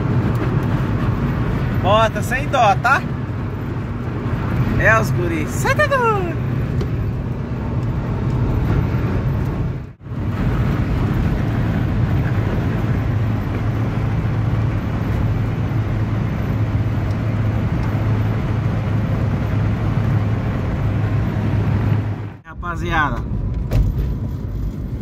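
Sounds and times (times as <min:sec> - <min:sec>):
tyre and road noise: 0:00.0 - 0:25.0
van engine hum: 0:00.0 - 0:25.0.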